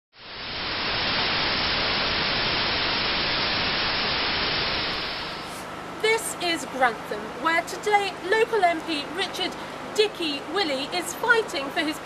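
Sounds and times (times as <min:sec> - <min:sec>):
television static hiss: 0:00.2 - 0:12.0.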